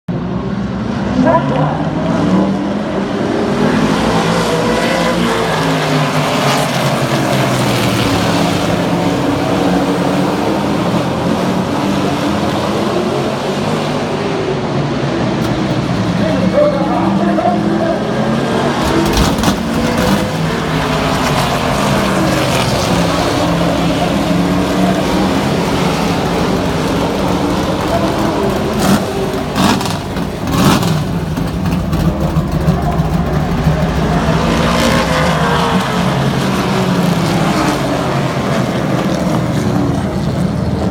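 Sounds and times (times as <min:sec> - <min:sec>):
race truck engines passing by: 0:00.1 - 0:40.9.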